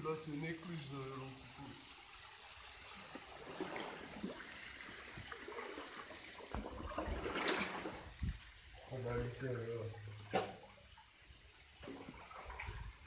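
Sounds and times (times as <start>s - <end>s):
water trickling down stone wall: 0.0s - 13.0s.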